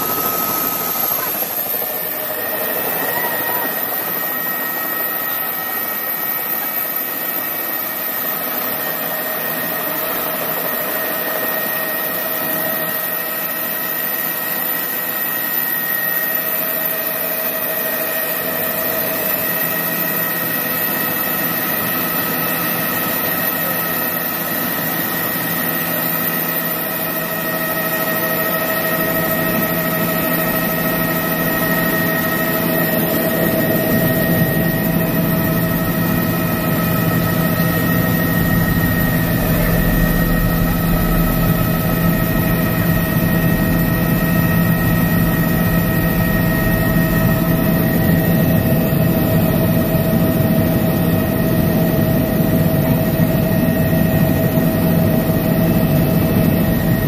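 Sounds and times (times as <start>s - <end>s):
helicopter rotor drone: 0.0s - 57.0s
helicopter turbine whine: 0.0s - 57.0s.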